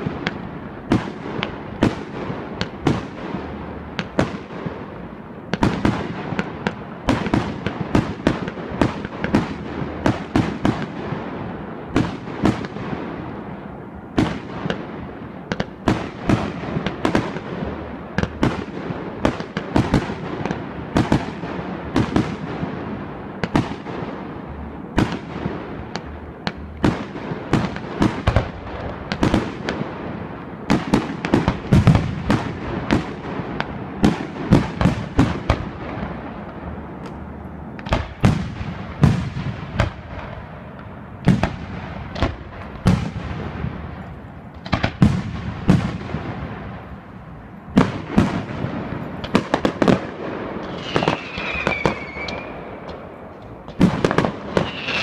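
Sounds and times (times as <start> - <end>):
fireworks bursting with echo: 0.0 - 55.0.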